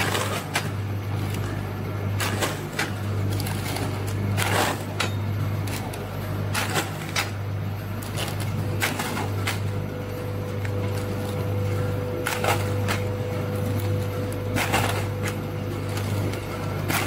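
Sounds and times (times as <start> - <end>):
plastic bags crinkling: 0.0 - 17.0
steady low hum: 0.0 - 17.0.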